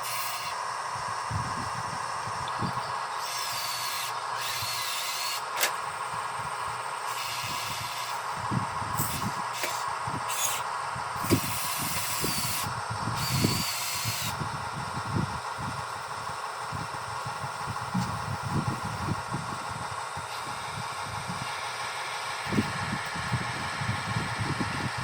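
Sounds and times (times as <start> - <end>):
electric motors whining: 0.0 - 25.0.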